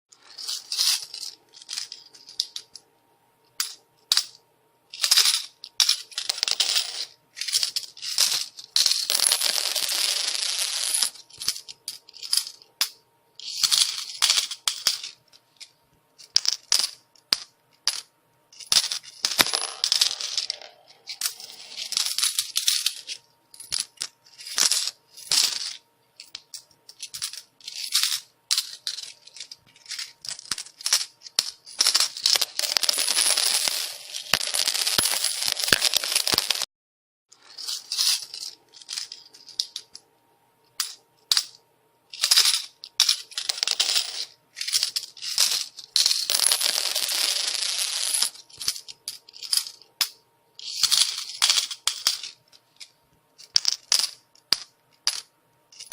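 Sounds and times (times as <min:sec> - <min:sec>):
coins falling and clinking: 0:00.2 - 0:02.8, 0:03.6 - 0:36.7, 0:37.4 - 0:40.0, 0:40.8 - 0:55.9.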